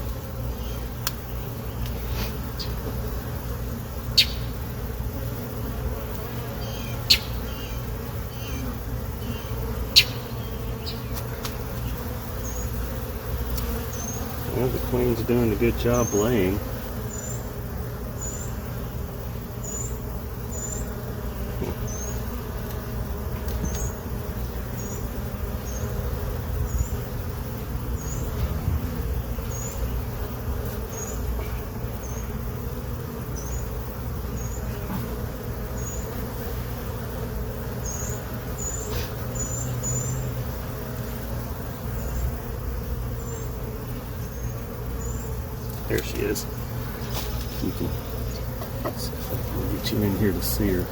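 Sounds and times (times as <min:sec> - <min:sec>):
bees buzzing: 0:00.0 - 0:50.9.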